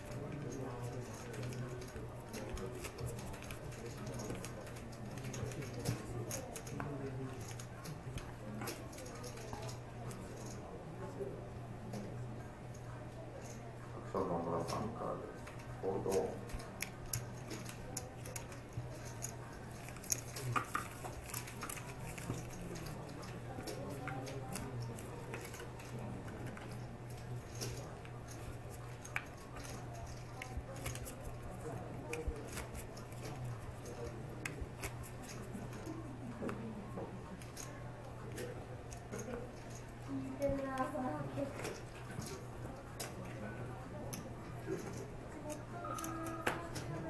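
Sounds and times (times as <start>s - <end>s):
murmur of voices: 0.0s - 47.0s
steady low hum: 0.0s - 47.0s.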